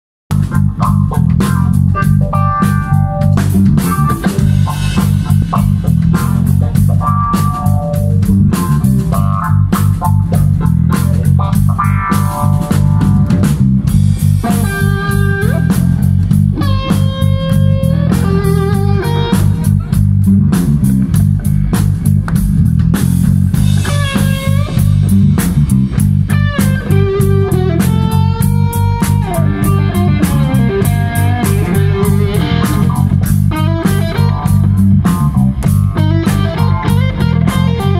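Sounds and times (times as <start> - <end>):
bass guitar: 0.3 - 37.9
drum kit: 0.3 - 37.9
electric guitar lead lines: 0.3 - 37.9.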